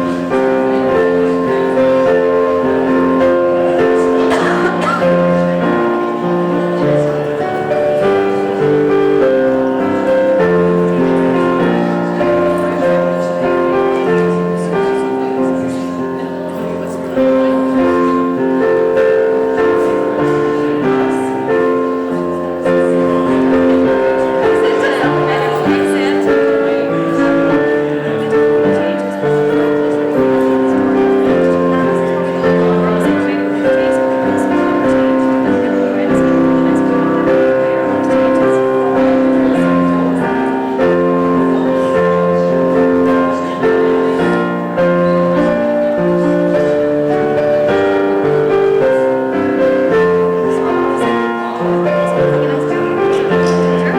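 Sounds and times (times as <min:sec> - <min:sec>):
keyboard playing slow chords: 0:00.0 - 0:53.9.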